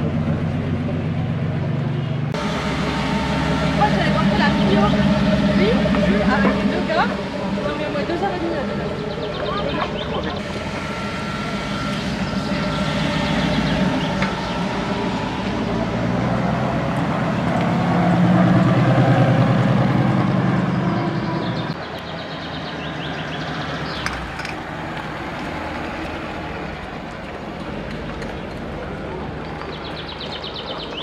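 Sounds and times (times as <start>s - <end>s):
cars driving slowly past: 0.0s - 31.0s.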